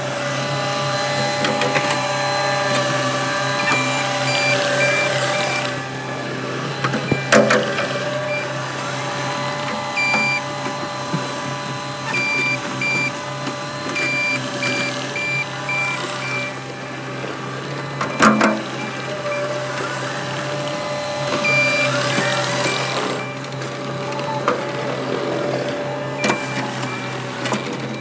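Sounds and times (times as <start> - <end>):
diesel engine running: 0.0 - 28.0
back-up alarm beeping: 0.6 - 24.4, 25.6 - 28.0.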